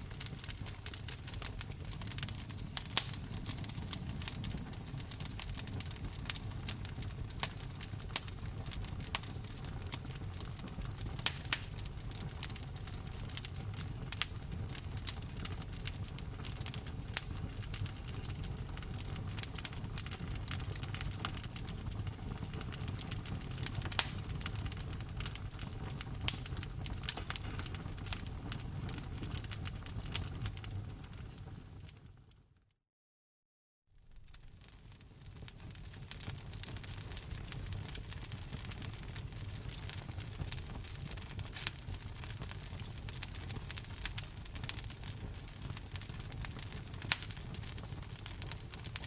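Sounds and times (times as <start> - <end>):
wood fire crackling: 0.0 - 32.4, 34.0 - 49.0.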